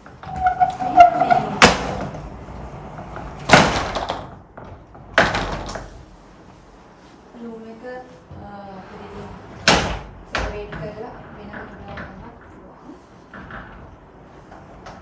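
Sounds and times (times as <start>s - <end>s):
door rollers squealing: 0.0s - 5.9s, 8.7s - 15.0s
sliding doors rolling: 0.0s - 15.0s.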